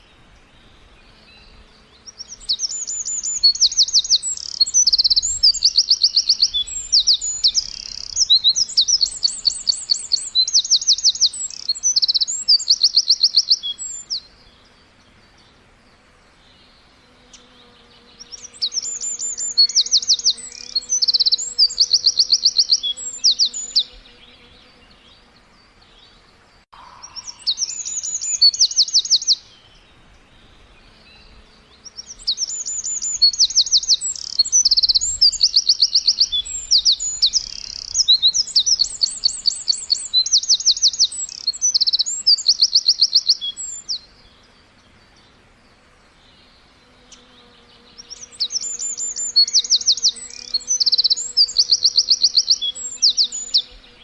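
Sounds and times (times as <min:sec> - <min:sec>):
bird chirping: 0:00.0 - 0:54.0.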